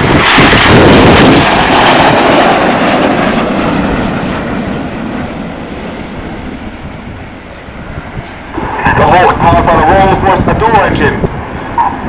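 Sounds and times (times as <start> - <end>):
jets passing overhead: 0.0 - 12.0.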